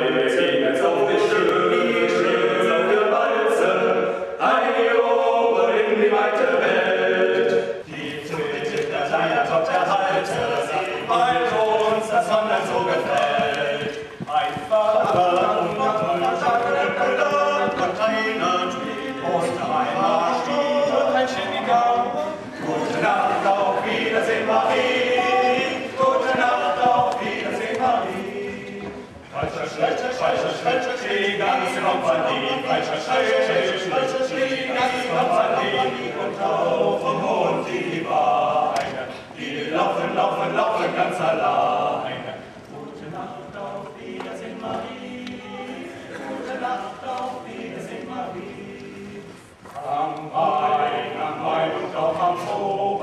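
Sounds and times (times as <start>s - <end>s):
male choir singing in harmony: 0.0s - 53.0s.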